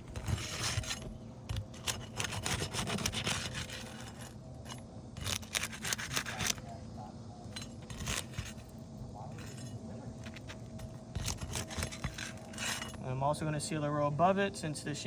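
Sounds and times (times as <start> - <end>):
tool scraping under roof shingles: 0.0 - 6.8, 7.5 - 13.0.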